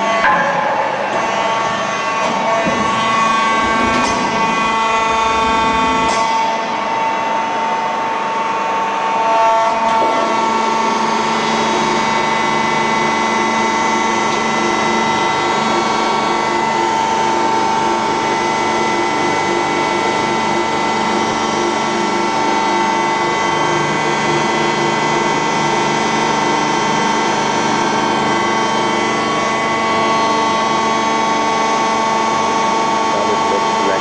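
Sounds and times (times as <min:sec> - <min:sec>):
lathe running with whine: 0:00.0 - 0:34.0.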